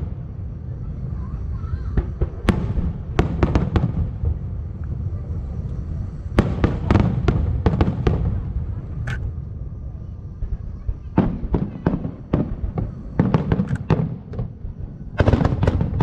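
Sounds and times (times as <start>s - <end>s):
fireworks bangs and crackles: 0.0s - 16.0s
low rumble: 0.0s - 16.0s.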